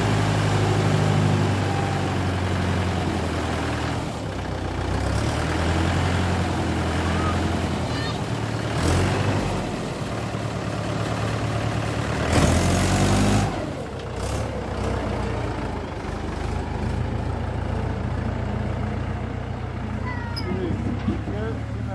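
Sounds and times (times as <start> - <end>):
tractor diesel engine revving: 0.0 - 21.9.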